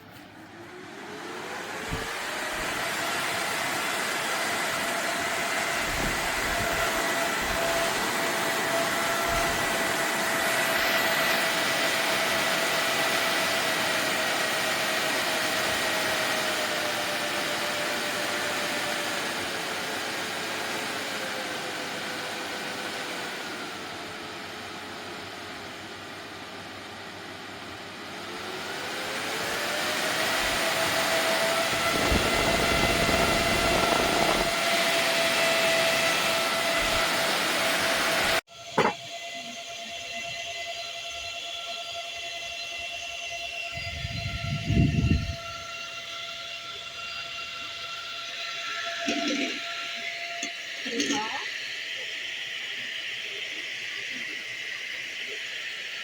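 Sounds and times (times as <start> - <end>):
small electric fan whining: 0.0 - 56.0.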